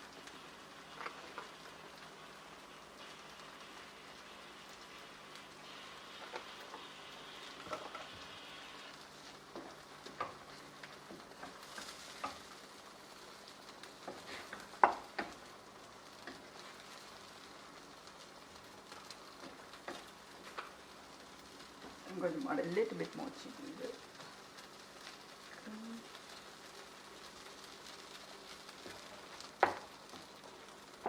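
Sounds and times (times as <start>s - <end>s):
gravy sizzling in a pan: 0.0s - 31.0s.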